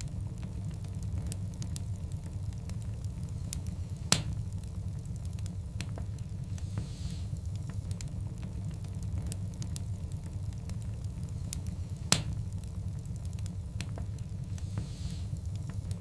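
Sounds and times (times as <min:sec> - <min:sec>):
fire rumbling: 0:00.0 - 0:16.0
wood crackling and popping: 0:00.0 - 0:16.0.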